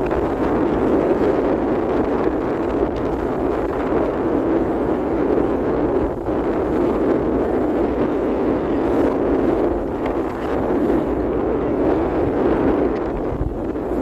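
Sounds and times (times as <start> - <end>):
boat rushing through water: 0.0 - 14.0
wind buffeting microphone: 0.0 - 14.0.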